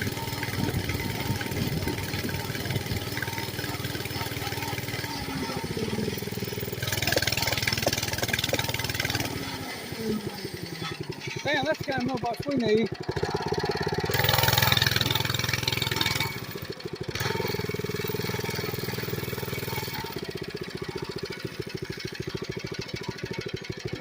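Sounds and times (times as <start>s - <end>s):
small bike engine running: 0.0s - 24.0s.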